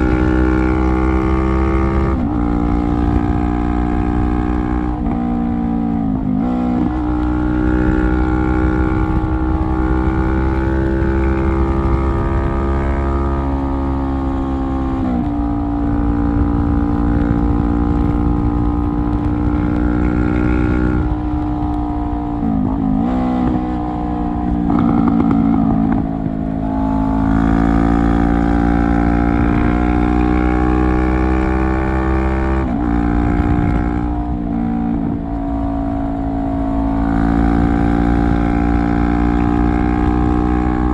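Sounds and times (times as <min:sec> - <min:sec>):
motorcycle exhaust under way: 0:00.0 - 0:40.9.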